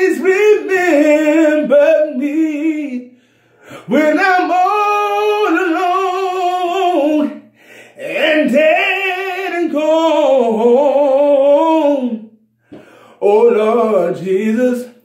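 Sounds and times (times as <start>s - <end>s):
man singing gospel unaccompanied: 0.0s - 15.0s.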